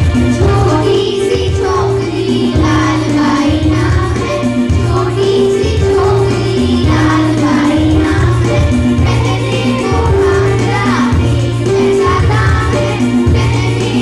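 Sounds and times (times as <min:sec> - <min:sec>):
instrumental accompaniment: 0:00.0 - 0:14.0
children singing in chorus: 0:00.4 - 0:14.0.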